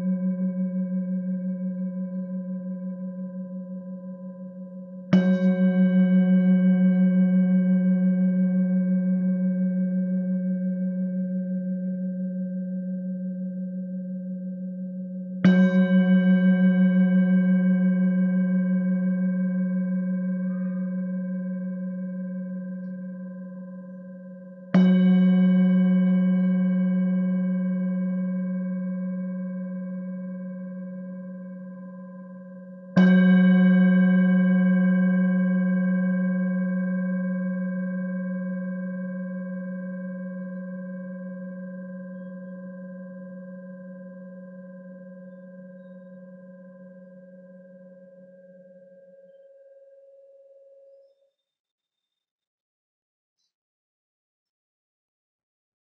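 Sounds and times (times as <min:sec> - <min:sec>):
low metal ringing tone: 0:00.0 - 0:51.2.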